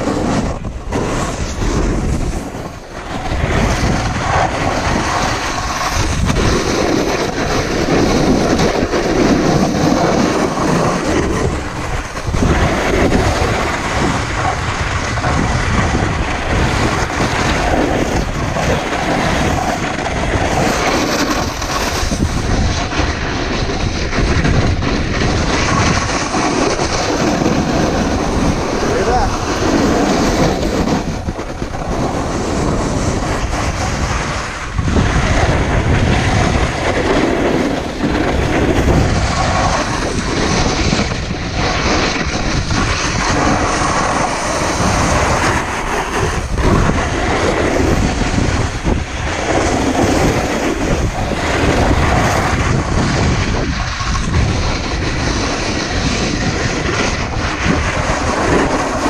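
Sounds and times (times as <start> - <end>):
snowboard scraping on icy snow: 0.0 - 59.0
wind rushing on microphone: 0.0 - 59.0.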